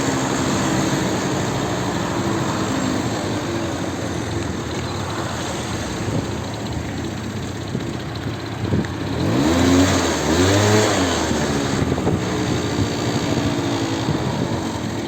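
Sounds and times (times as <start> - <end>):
vehicle engine revving: 0.0 - 7.8, 8.4 - 15.0
background rush: 0.0 - 15.0.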